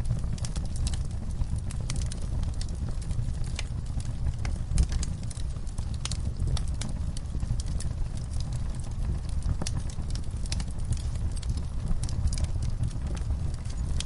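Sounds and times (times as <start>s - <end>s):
fire flames rumbling: 0.0s - 14.0s
wood crackling and popping: 0.0s - 14.0s.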